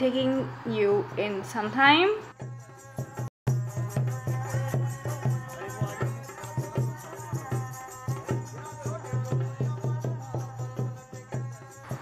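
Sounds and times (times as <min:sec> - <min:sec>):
background music with drum beat: 0:02.3 - 0:12.0.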